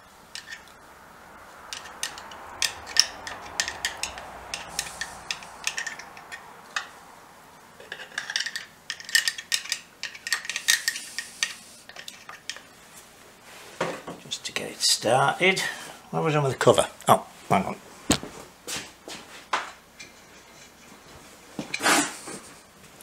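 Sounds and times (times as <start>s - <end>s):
soft hiss: 0.0s - 7.9s, 10.3s - 23.0s.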